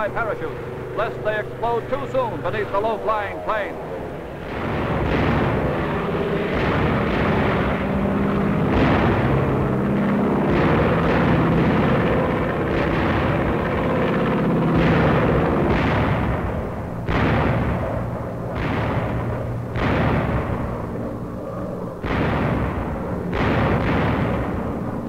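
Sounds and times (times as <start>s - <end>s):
bomber engines droning: 0.0s - 25.0s
explosions: 1.0s - 21.2s, 22.0s - 25.0s.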